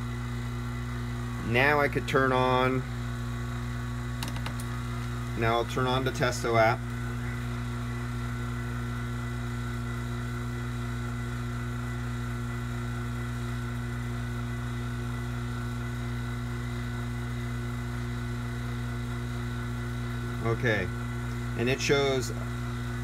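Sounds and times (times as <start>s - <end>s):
vacuum pump humming: 0.0s - 23.0s.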